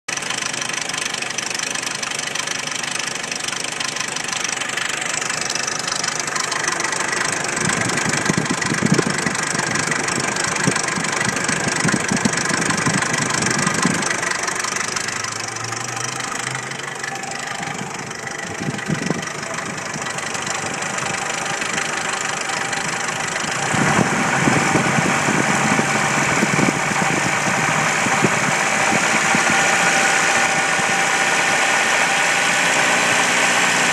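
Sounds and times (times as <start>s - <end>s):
engine running with knock: 0.1s - 33.9s.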